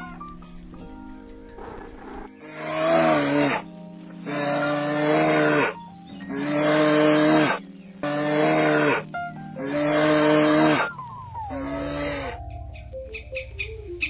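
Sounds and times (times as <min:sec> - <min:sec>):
livestock calling: 0:01.6 - 0:14.0.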